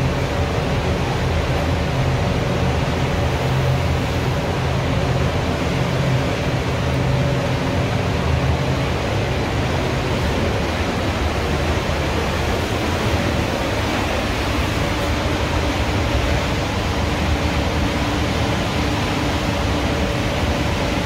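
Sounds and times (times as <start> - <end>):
ventilation fans rushing air: 0.0 - 21.0.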